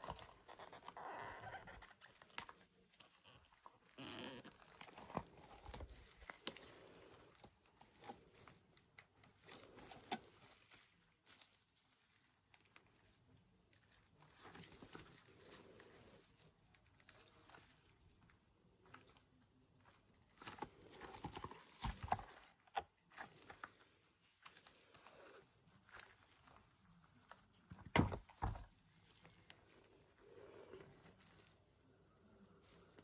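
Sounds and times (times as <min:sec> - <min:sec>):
silicone mould rubbing and crinkling: 0:00.0 - 0:33.0.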